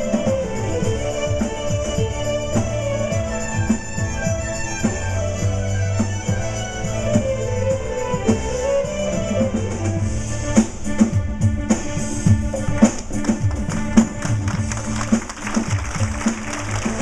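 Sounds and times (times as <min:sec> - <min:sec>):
drum kit beat: 0:00.0 - 0:17.0
upbeat band music with violin: 0:00.0 - 0:17.0.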